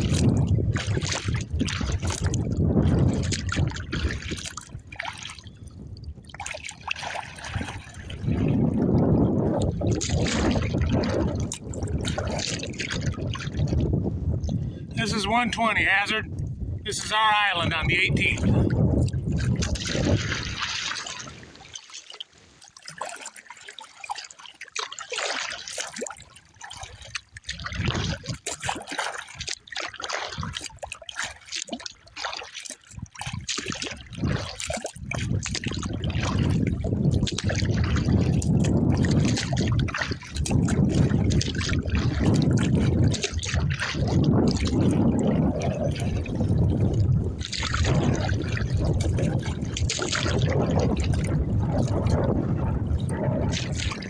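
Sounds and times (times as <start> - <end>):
wind buffeting microphone: 0.0 - 21.6, 26.8 - 29.6, 30.2 - 30.9, 32.9 - 54.0
water splashing around a kayak: 0.0 - 54.0.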